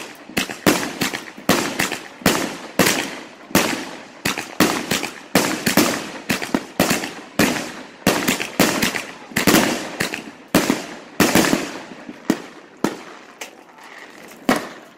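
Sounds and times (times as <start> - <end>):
fireworks cake firing shots: 0.0 - 14.9.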